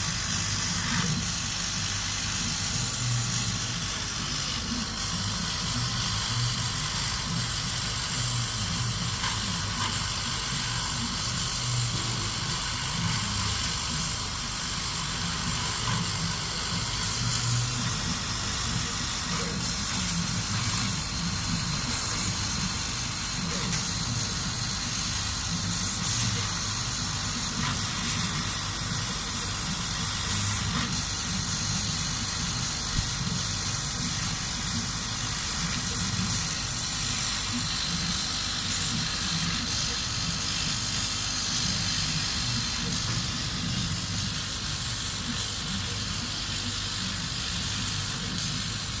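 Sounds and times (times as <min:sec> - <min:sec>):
laser cutter whirring: 0:00.0 - 0:49.0.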